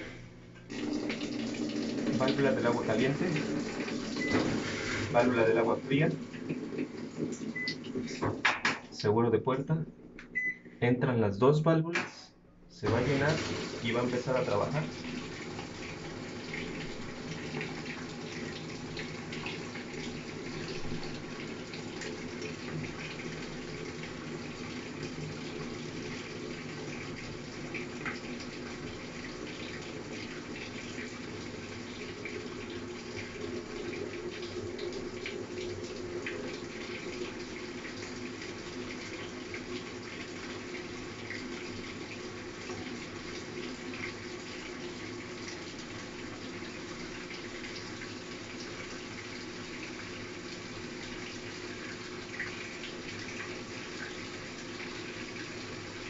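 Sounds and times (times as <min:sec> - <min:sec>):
water pouring into washer tub: 0:00.6 - 0:08.4, 0:12.8 - 0:56.0.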